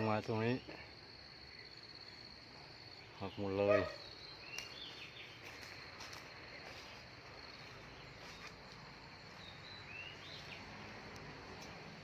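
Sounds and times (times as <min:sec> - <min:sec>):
bird chirp: 0:00.0 - 0:12.0
insects droning: 0:00.0 - 0:12.0.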